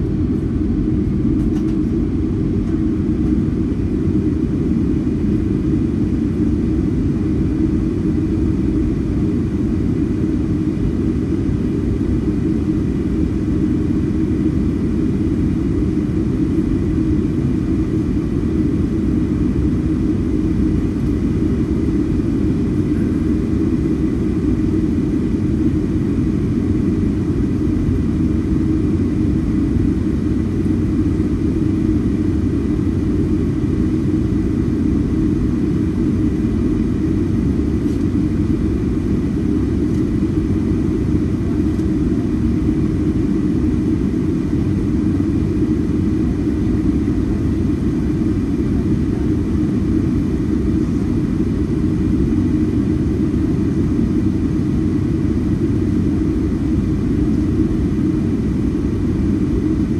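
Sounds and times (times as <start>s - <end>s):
jet aircraft engines low noise: 0.0s - 59.9s.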